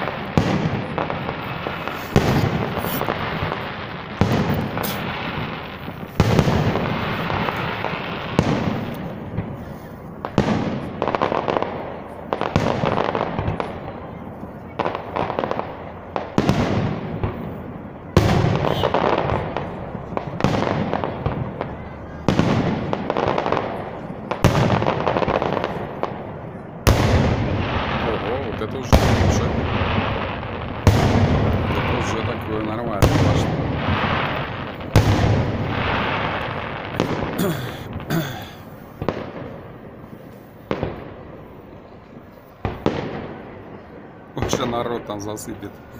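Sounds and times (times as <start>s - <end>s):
firework booms: 0.0s - 45.5s.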